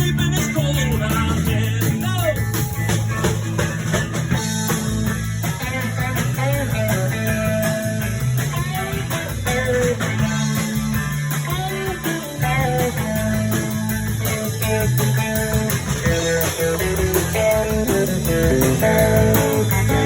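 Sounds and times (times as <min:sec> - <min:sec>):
blues guitar bending lines: 0:00.0 - 0:20.0
low bass notes: 0:00.0 - 0:20.0.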